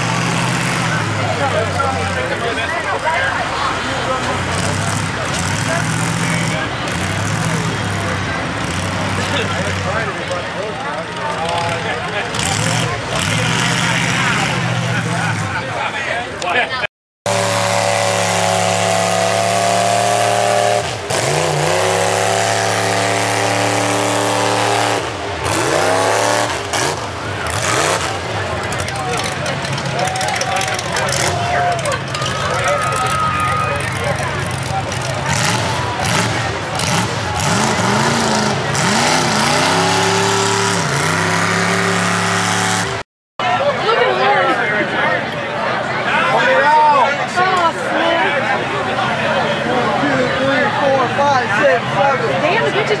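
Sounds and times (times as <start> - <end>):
truck engine at high revs: 0.0 - 43.1.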